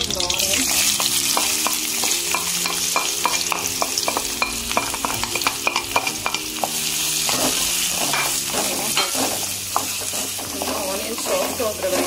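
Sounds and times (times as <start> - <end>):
onions sizzling in hot oil: 0.0 - 12.0
wooden spatula knocking pan: 1.0 - 12.0.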